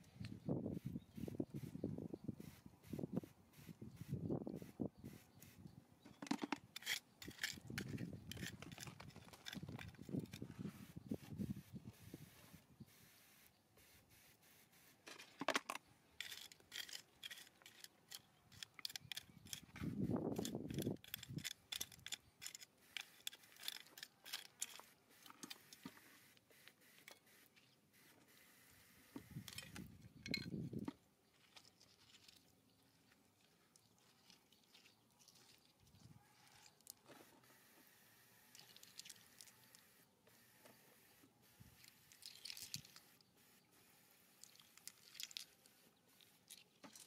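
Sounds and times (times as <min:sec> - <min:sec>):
digging and scraping in rock: 0:02.4 - 0:37.7, 0:38.5 - 0:39.9, 0:44.3 - 0:47.0.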